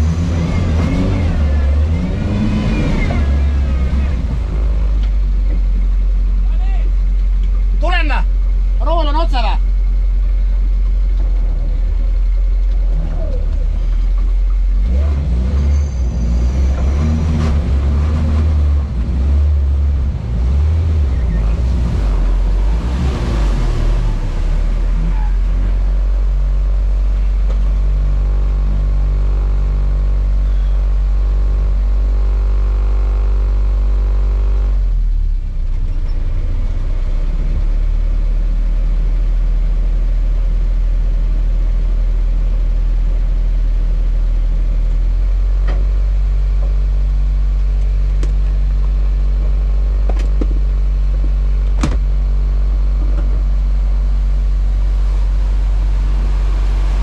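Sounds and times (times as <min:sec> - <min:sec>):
off-road car engine revving: 0:00.0 - 0:57.0.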